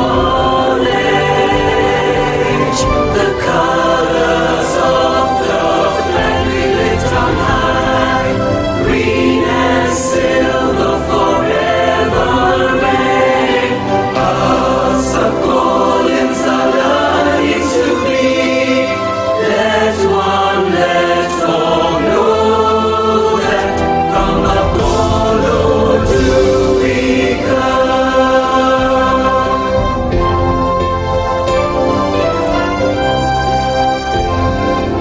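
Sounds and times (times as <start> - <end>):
choir singing: 0.0 - 35.0
held low accompaniment notes: 0.0 - 35.0.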